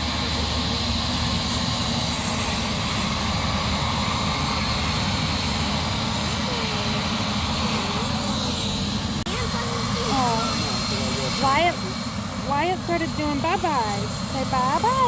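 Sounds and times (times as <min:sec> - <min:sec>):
helicopter rotor and engine rumble: 0:00.0 - 0:15.0.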